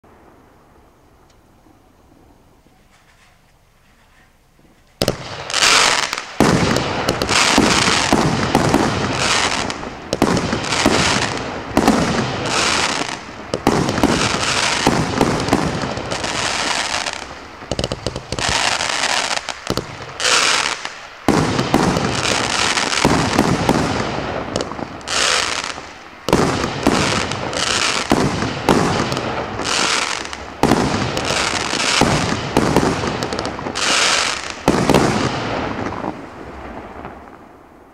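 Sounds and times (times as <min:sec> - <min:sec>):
fireworks shots and aerial bursts: 0:04.6 - 0:37.9
fireworks hissing: 0:05.0 - 0:36.2.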